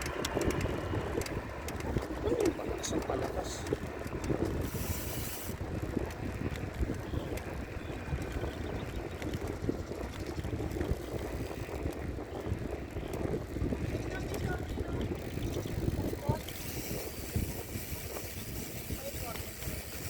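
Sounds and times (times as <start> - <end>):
bicycle tyres rumbling on road: 0.0 - 20.0
wind buffeting microphone: 0.0 - 20.0.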